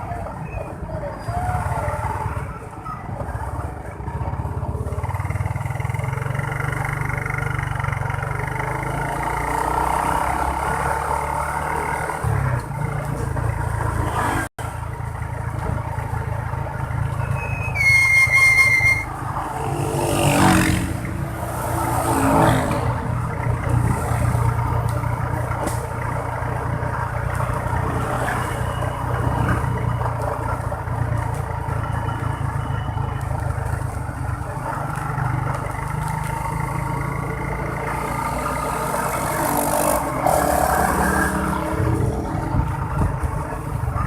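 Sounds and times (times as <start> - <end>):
traffic noise: 0.0 - 44.0.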